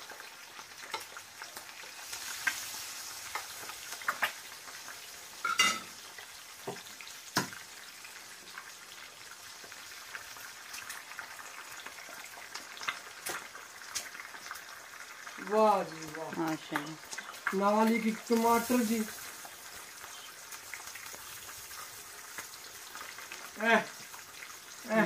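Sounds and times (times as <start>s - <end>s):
food sizzling on griddle: 0.0s - 25.0s.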